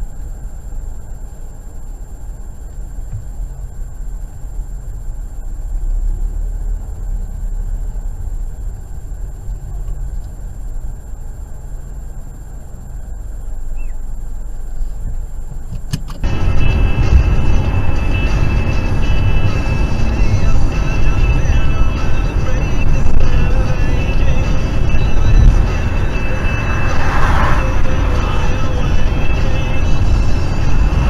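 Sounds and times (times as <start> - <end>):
car engine and road noise: 0.0 - 31.0
faint high whine: 0.0 - 31.0.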